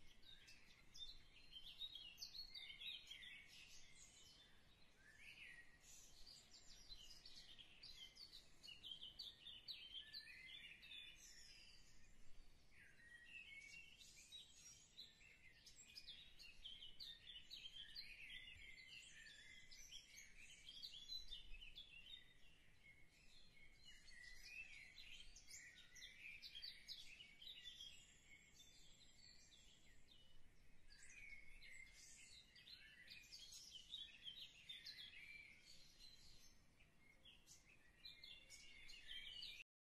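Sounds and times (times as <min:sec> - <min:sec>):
small birds chirping: 0:00.0 - 0:39.7.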